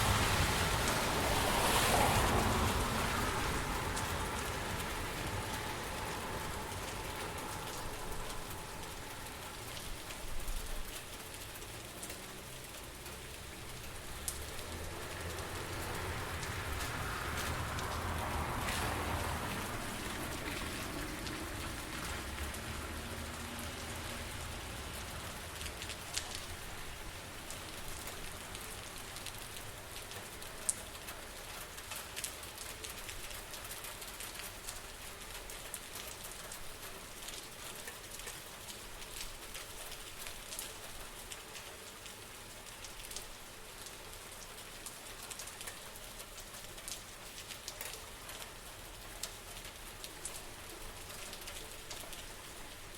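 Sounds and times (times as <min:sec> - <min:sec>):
rain on hard surfaces: 0:00.0 - 0:52.9
raindrops ticking: 0:00.0 - 0:52.9.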